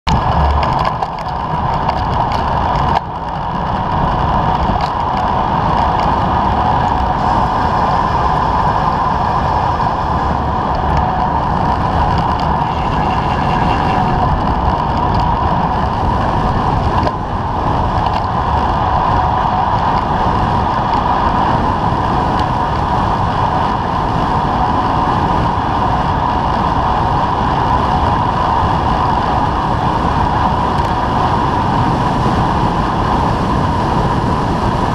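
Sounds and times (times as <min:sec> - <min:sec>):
wind on microphone: 0:00.0 - 0:34.9
tyres rolling on asphalt: 0:00.1 - 0:34.9.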